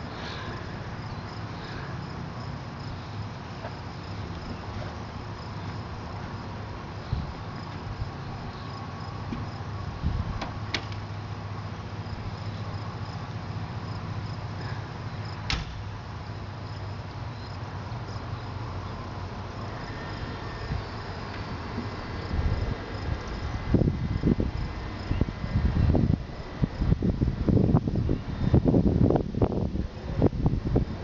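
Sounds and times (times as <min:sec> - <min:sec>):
insects chirping: 0:00.0 - 0:31.0
steady low hum: 0:00.0 - 0:31.0.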